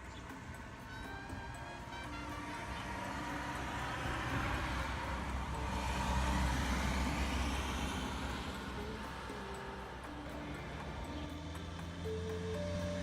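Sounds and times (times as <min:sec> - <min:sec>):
vehicle passing by: 0:01.5 - 0:13.0.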